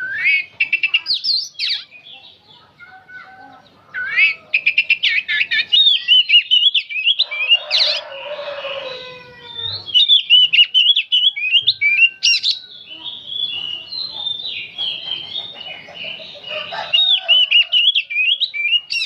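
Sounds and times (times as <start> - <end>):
songbird whistles and trills: 0.0 - 19.0.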